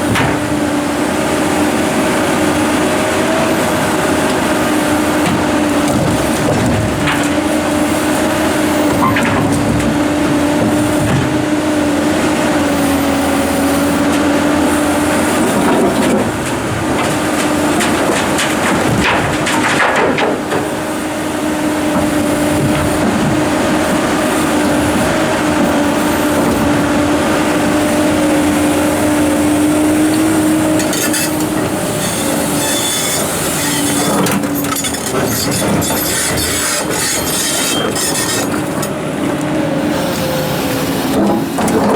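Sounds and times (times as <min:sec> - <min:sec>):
excavator engine and hydraulics whine: 0:00.0 - 0:41.9.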